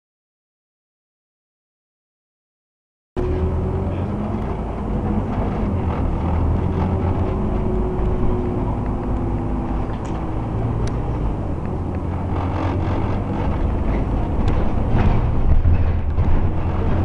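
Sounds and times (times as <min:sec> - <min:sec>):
bus diesel engine droning: 0:03.2 - 0:17.0
road noise: 0:03.2 - 0:17.0.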